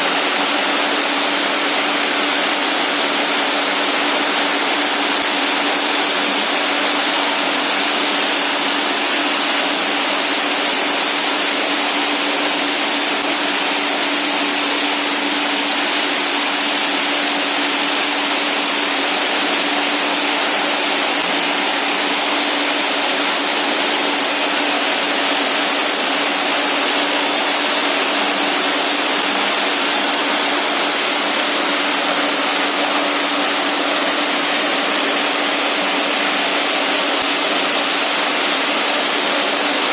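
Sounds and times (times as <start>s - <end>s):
machine and conveyor running: 0.0s - 39.9s.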